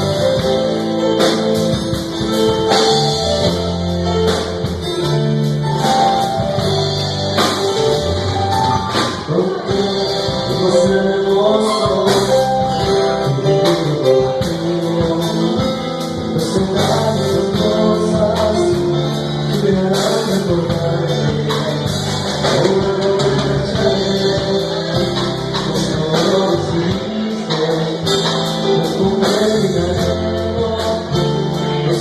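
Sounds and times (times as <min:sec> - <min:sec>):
live band with guitar and drums: 0:00.0 - 0:32.0.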